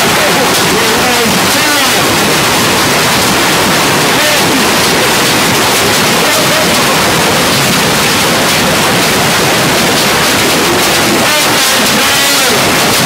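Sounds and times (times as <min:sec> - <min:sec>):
hail and rain pelting in wind: 0:00.0 - 0:13.0.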